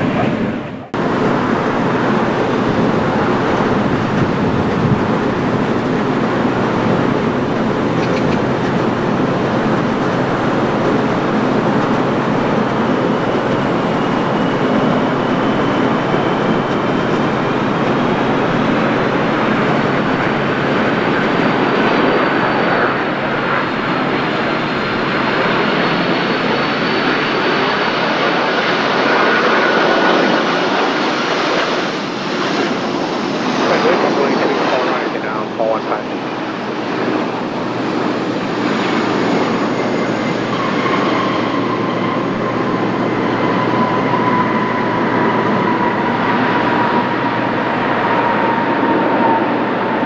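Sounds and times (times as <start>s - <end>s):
jet roar with high whine: 0.0s - 50.0s.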